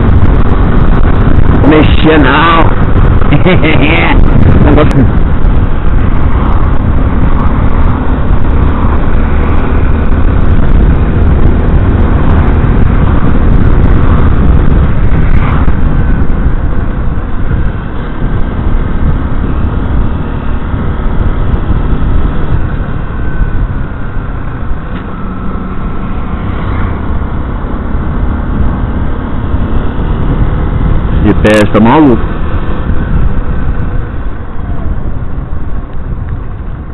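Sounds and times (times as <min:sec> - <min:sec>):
motorcycle engine running: 0:00.0 - 0:36.9
wind rushing over microphone: 0:00.0 - 0:36.9.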